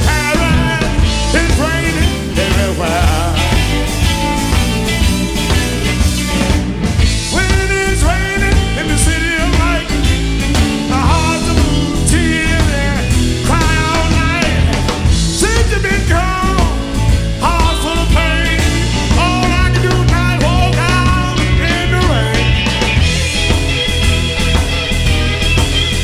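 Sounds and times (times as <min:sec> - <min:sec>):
live electric blues band: 0:00.0 - 0:26.0
sliding guitar phrases: 0:00.0 - 0:26.0.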